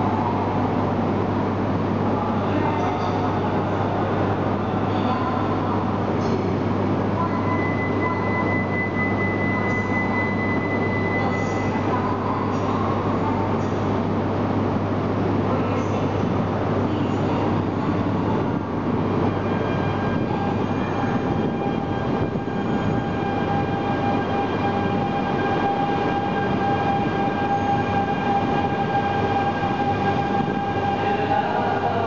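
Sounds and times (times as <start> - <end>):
steady high whine: 0.0 - 32.0
train rumble: 0.0 - 32.0.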